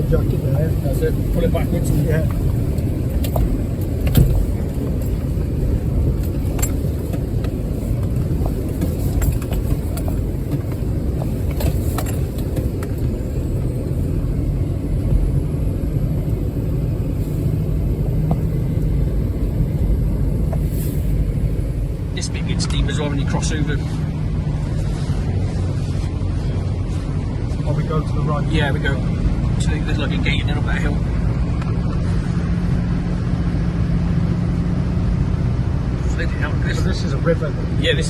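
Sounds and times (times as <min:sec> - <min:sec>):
off-road vehicle engine rumble: 0:00.0 - 0:38.0.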